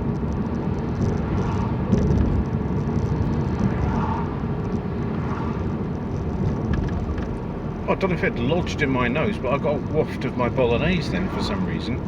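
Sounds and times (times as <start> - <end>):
car tyres and engine rumbling: 0.0 - 12.0.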